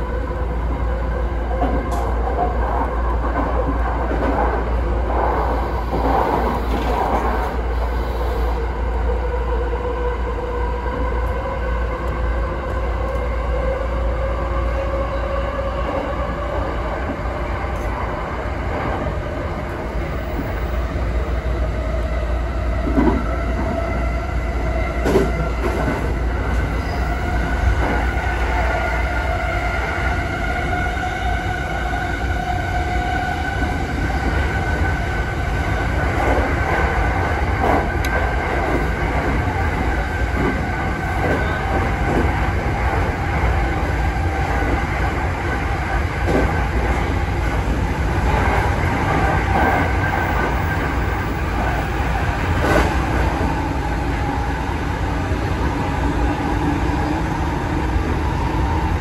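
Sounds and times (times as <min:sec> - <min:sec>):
train running rumble: 0:10.0 - 0:59.0.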